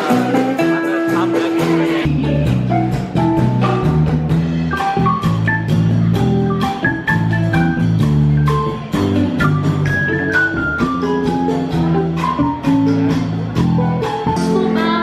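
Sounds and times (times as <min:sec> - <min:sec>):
upbeat instrumental music: 0:00.0 - 0:15.0.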